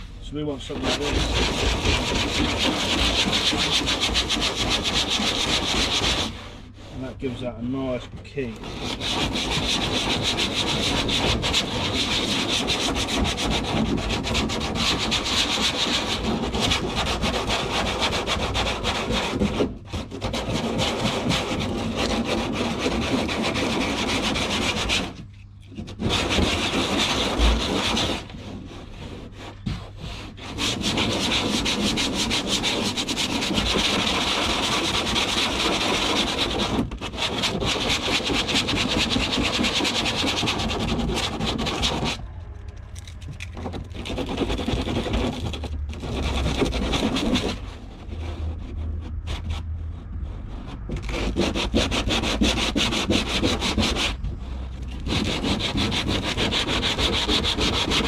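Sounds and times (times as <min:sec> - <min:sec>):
sandpaper rasping on plastic: 0:00.0 - 0:42.2, 0:43.0 - 0:58.0.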